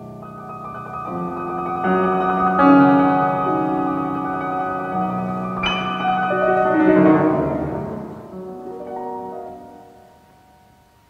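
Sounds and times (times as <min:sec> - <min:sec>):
grand piano: 0:00.0 - 0:11.0.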